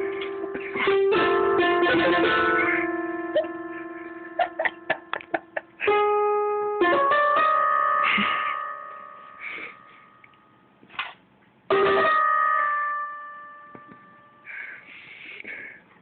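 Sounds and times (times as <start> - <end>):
electronic keyboard chord: 0.0 - 10.7, 11.7 - 14.8.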